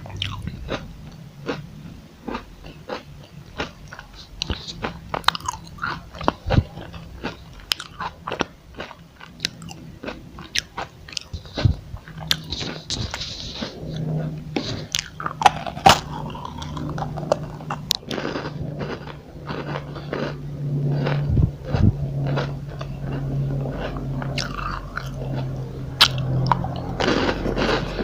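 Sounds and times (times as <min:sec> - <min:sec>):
crunching and chewing: 0:00.0 - 0:28.0
low steady hum: 0:00.0 - 0:28.0.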